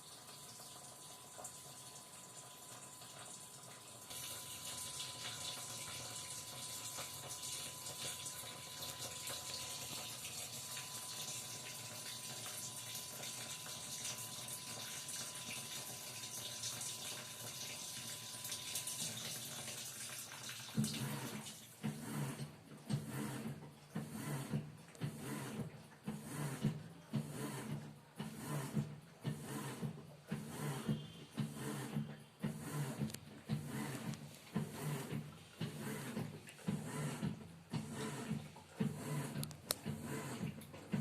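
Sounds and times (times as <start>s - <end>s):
water rushing into washing machine: 0.0s - 41.0s.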